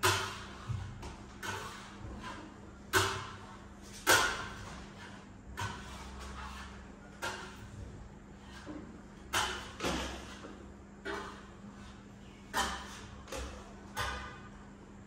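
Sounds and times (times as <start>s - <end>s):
trowel scraping plaster: 0.1s - 7.8s, 8.4s - 13.4s.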